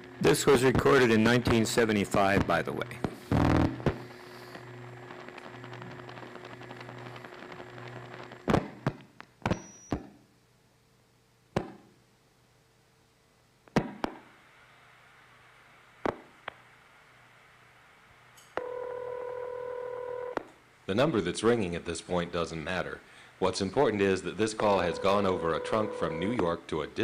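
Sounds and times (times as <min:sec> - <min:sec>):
telephone line hum and hiss: 0:00.0 - 0:11.1, 0:14.3 - 0:27.0.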